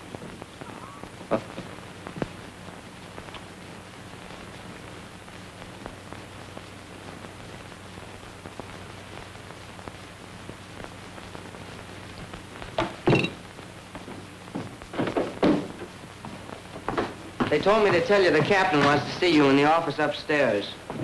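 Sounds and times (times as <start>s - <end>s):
film soundtrack hiss and crackle: 0.0s - 21.0s.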